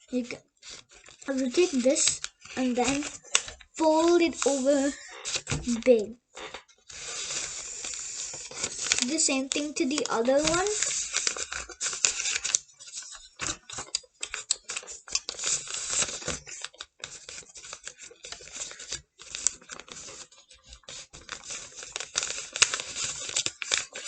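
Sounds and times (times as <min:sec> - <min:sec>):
paper crinkling and rustling: 0:00.0 - 0:24.0.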